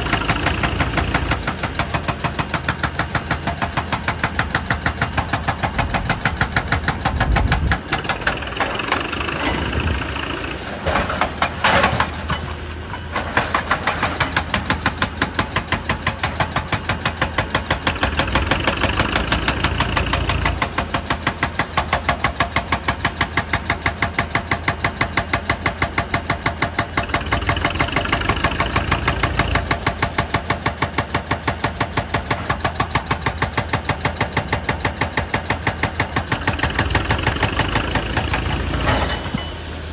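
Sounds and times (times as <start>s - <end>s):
diesel engine running: 0.0s - 39.9s
hydraulic rock breaker hammering: 0.0s - 39.9s.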